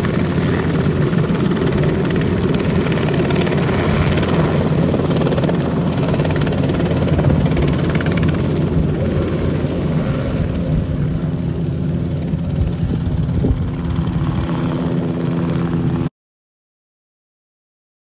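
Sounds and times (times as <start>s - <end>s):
engine hum: 0.0s - 16.1s
helicopter rotor beat: 0.0s - 16.1s.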